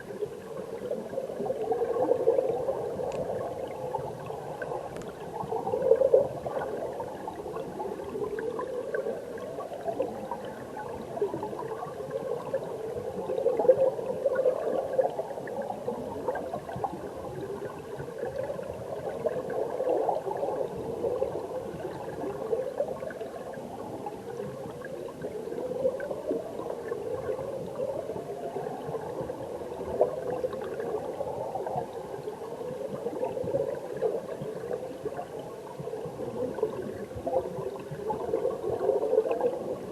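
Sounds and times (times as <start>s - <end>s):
stream water gurgling underwater: 0.0s - 39.9s.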